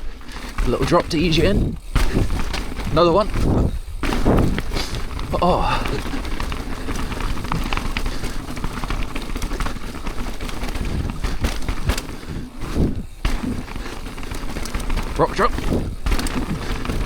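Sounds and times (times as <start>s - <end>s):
tyres crunching over loose stone: 0.0s - 17.0s
sharp knocks from bike: 0.2s - 17.0s.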